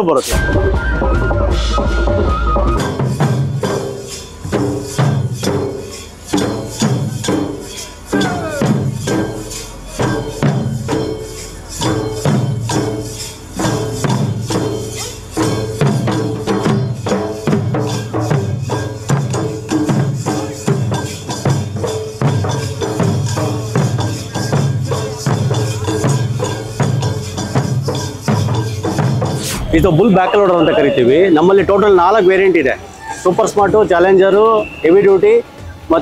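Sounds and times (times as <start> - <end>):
barrel drums beating: 0.3 - 32.2.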